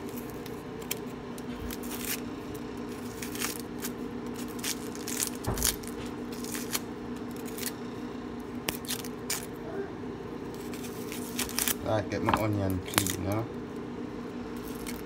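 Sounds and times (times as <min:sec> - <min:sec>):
knife scraping onion skin: 0:00.0 - 0:07.8, 0:08.6 - 0:09.6, 0:10.5 - 0:13.4, 0:14.5 - 0:15.0
steady hum: 0:00.0 - 0:15.0.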